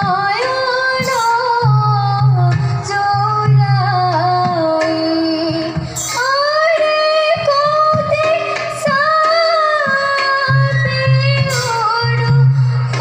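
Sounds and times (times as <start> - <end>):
girl singing devotional song: 0.0 - 13.0
hand-played barrel drum: 0.0 - 13.0.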